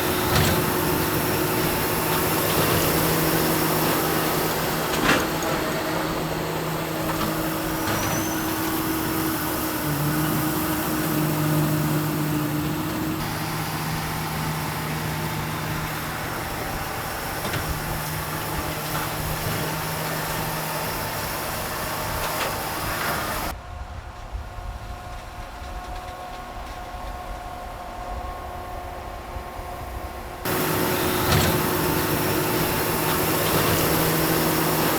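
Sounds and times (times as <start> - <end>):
baler machinery running: 0.0 - 23.5, 24.6 - 34.9
tractor engine running: 0.0 - 23.5, 24.6 - 34.9.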